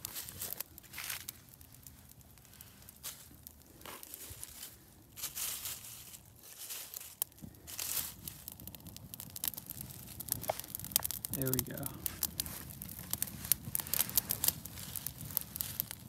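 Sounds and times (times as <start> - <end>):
dry leaves and twigs crunching: 0.0 - 8.7, 9.7 - 16.0.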